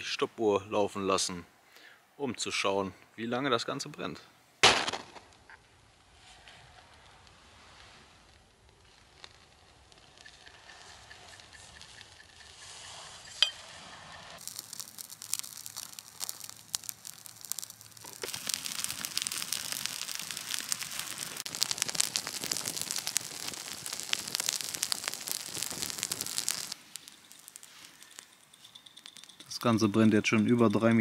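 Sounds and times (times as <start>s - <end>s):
fire crackling with small pops: 4.6s - 31.0s.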